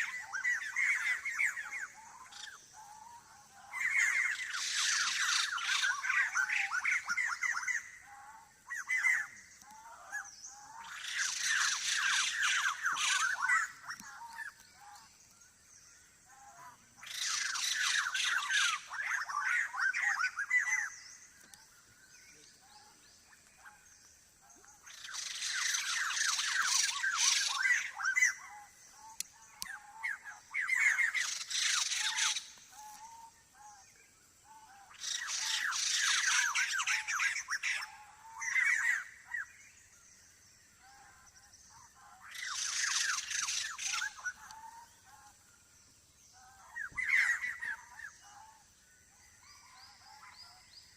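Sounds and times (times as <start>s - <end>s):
forest birds chattering: 0.0s - 50.9s.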